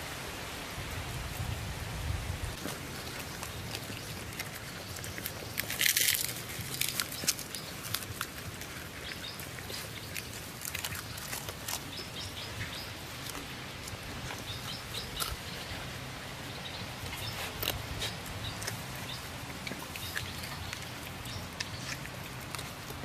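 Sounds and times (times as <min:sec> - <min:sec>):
dogs licking and chewing: 0:02.6 - 0:23.0.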